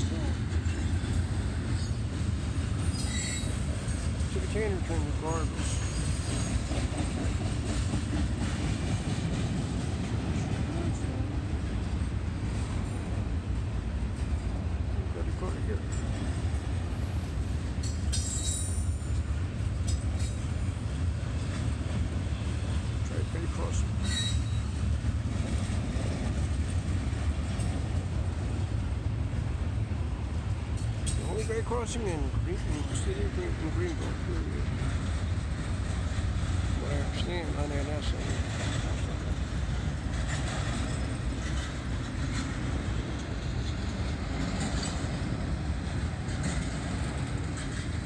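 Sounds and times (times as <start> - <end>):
train wheels on rails: 0.0 - 48.0.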